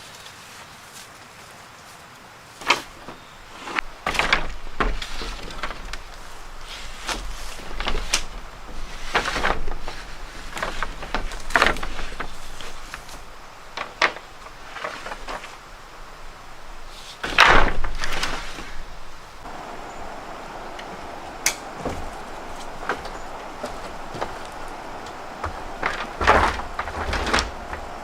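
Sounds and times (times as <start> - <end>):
irregular knocks and scraping: 2.6 - 28.0
steady low rumble: 3.8 - 28.0.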